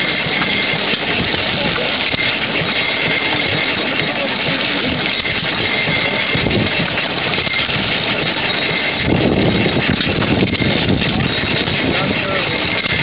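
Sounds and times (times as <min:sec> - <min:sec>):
old gasoline engines clattering: 0:00.0 - 0:13.0.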